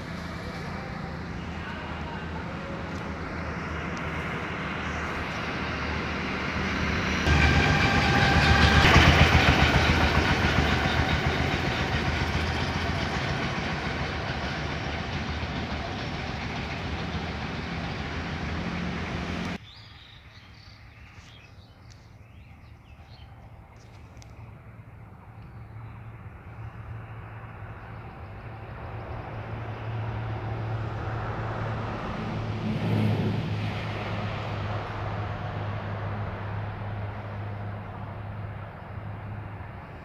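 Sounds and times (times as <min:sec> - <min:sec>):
heavy vehicle passing: 0:00.0 - 0:19.6, 0:26.1 - 0:40.0
faint outdoor background: 0:00.0 - 0:40.0.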